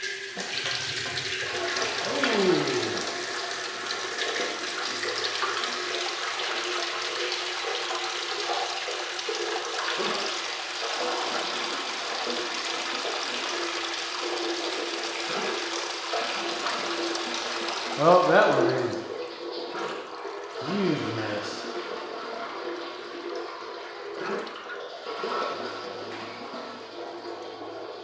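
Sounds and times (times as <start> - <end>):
liquid pouring and splashing from hose: 0.0 - 18.7, 19.3 - 28.0.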